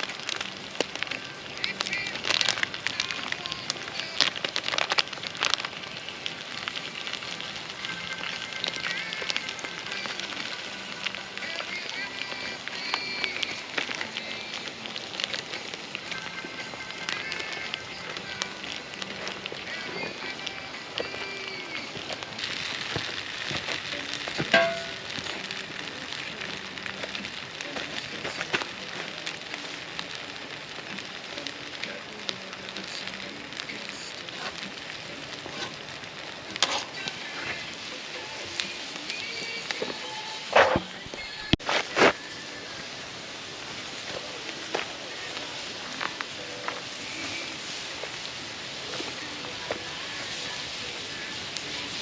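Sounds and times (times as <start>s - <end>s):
campfire crackling and popping: 0.0s - 52.0s
food sizzling in a pan: 0.0s - 52.0s.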